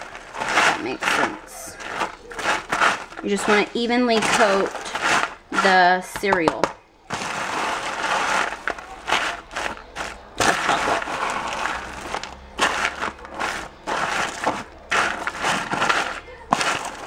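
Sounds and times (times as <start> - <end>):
cereal crunching while stirred: 0.0 - 6.1, 7.0 - 17.0.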